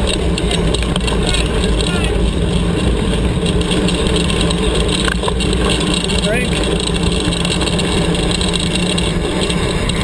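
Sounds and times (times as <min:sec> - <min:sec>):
bike tyres rolling on dirt road: 0:00.0 - 0:10.0.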